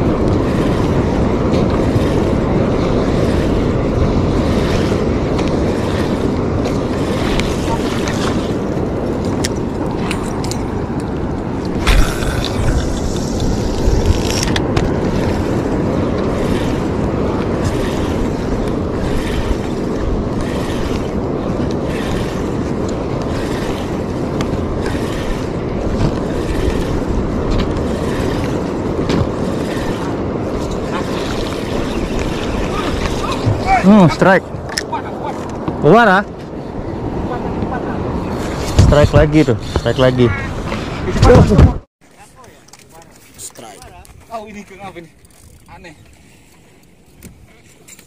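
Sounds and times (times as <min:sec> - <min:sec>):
sea: 0:00.0 - 0:48.0
wind: 0:00.0 - 0:48.0.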